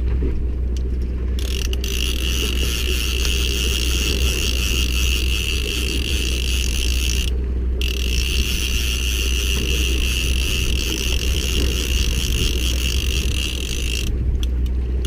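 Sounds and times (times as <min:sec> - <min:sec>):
low rumble: 0:00.0 - 0:15.0
fishing reel cranking: 0:01.4 - 0:14.2.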